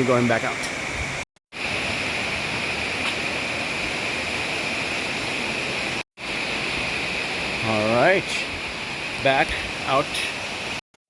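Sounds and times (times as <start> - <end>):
water rushing in a cave: 1.6 - 10.8.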